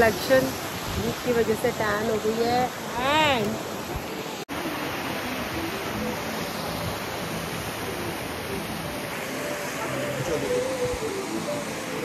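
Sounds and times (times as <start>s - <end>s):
faint background music: 0.0s - 12.0s
stream water rushing: 0.0s - 12.0s.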